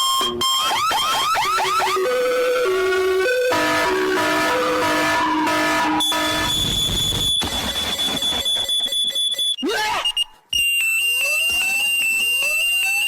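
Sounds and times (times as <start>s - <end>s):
high-pitched electronic alarm tone: 1.1s - 13.0s.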